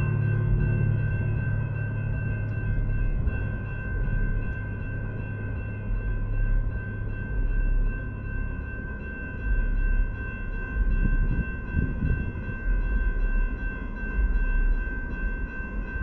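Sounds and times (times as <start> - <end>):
low uneven rumble: 0.0 - 13.6
railroad crossing bell ringing: 0.0 - 16.0.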